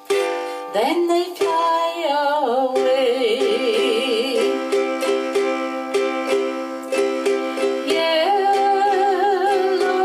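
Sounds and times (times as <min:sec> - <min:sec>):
person singing: 0:00.0 - 0:10.0
ukulele strumming: 0:00.0 - 0:10.0.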